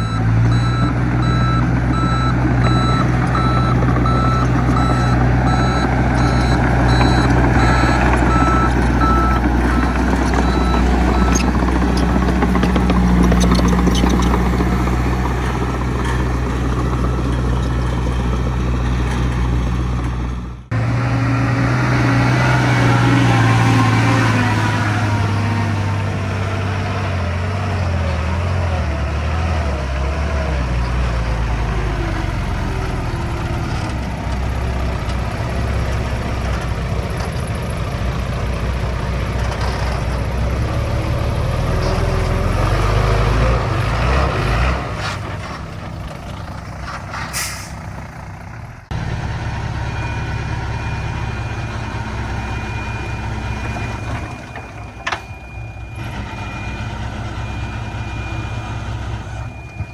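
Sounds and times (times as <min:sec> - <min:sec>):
heavy diesel engines running hard: 0:00.0 - 0:59.9.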